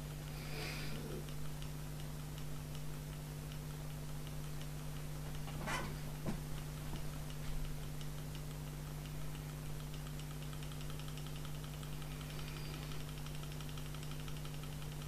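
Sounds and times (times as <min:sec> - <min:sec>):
ball ticking against metal plates: 0:01.0 - 0:05.6, 0:06.4 - 0:15.0.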